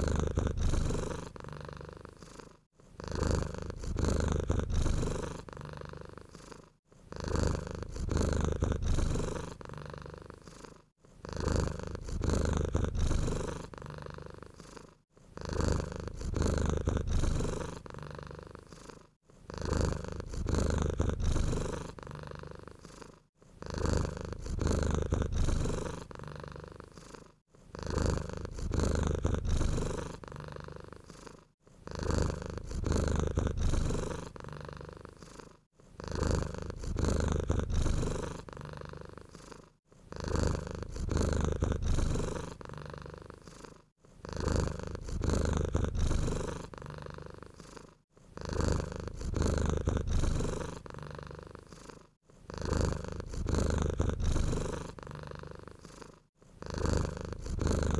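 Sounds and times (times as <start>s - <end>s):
cat purring close up: 0.0s - 57.9s.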